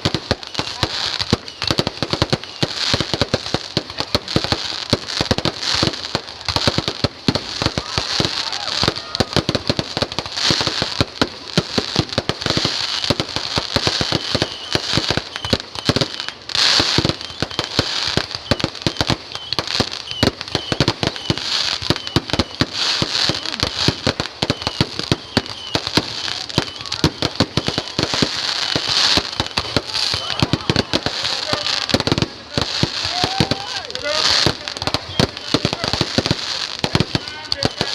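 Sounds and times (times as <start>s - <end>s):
crackling hiss: 0.0s - 37.9s
fireworks popping and banging: 0.0s - 37.9s.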